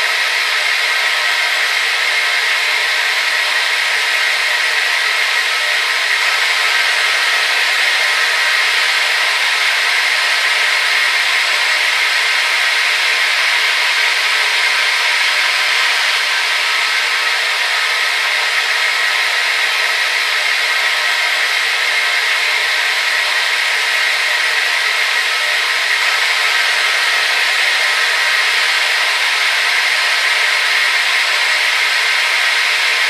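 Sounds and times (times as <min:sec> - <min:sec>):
hair dryer running: 0:00.0 - 0:33.0.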